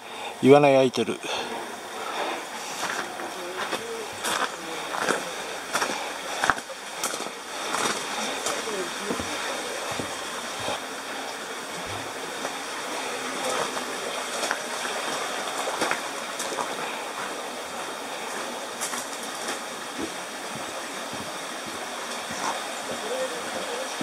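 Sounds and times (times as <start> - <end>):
flowing water: 0.0 - 24.0.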